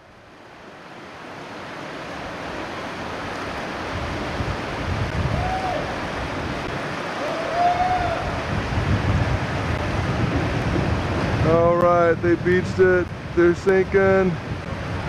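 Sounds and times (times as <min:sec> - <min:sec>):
wind buffeting microphone: 0:01.6 - 0:15.0.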